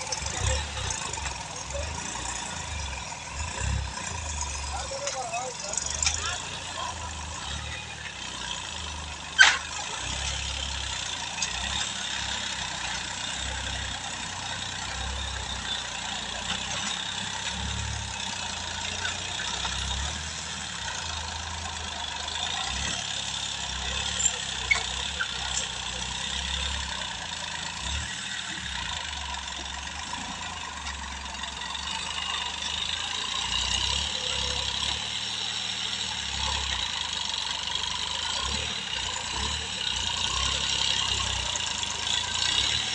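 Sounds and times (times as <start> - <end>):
distant tractor diesel engine: 0.0 - 42.9.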